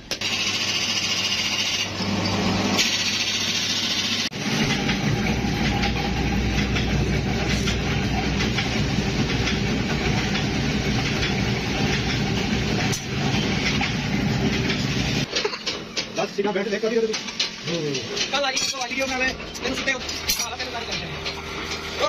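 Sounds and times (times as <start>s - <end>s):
machine humming and rattling: 0.0s - 22.0s.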